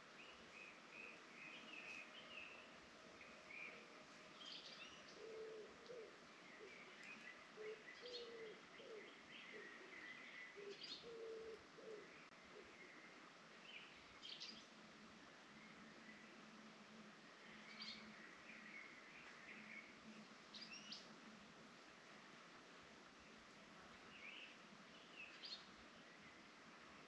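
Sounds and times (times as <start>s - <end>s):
soft steady background: 0.0s - 27.0s.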